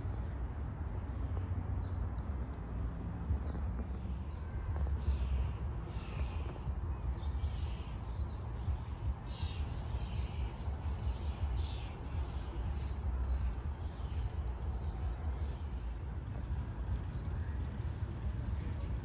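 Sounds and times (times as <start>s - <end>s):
steady low rumble: 0.0s - 19.0s
birds chirping: 3.3s - 19.0s.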